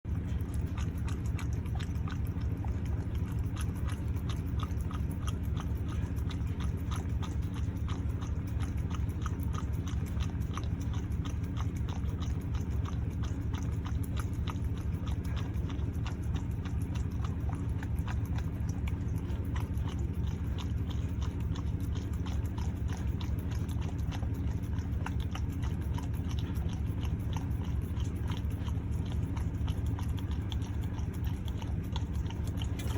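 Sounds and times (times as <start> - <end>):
low hum: 0.0 - 32.9
dog licking and chewing: 0.1 - 32.9.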